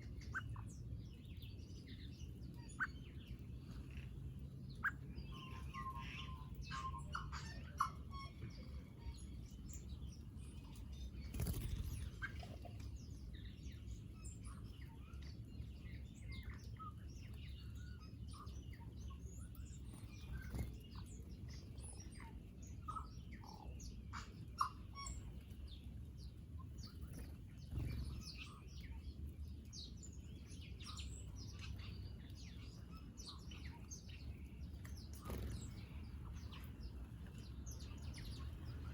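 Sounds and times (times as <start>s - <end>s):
low background rumble: 0.0s - 38.9s
small birds chirping: 0.0s - 38.9s.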